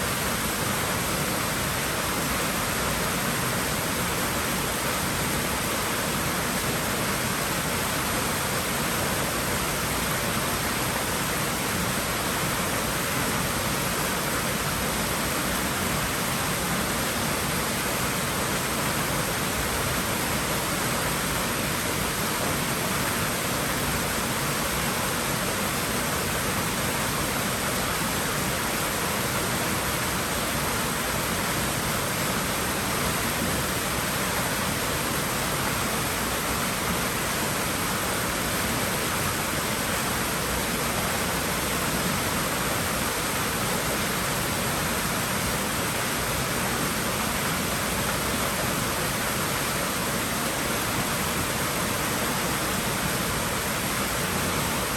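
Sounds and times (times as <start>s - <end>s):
water rushing in pool: 0.0s - 54.9s.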